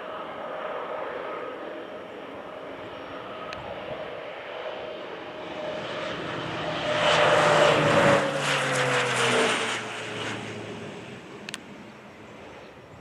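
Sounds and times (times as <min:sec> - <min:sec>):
propeller plane passing low: 0:00.0 - 0:13.0.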